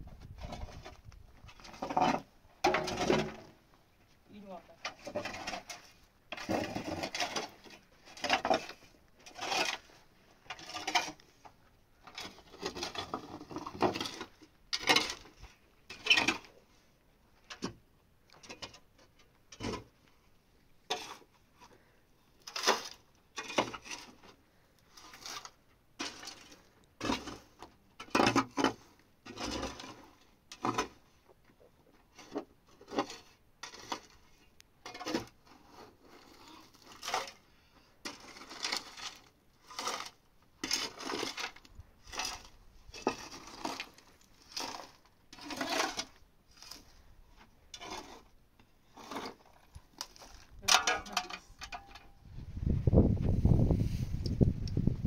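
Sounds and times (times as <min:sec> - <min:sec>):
shovel scraping dry earth: 0:00.2 - 0:03.5, 0:04.4 - 0:16.7, 0:20.9 - 0:21.7, 0:22.4 - 0:31.1, 0:32.1 - 0:55.0.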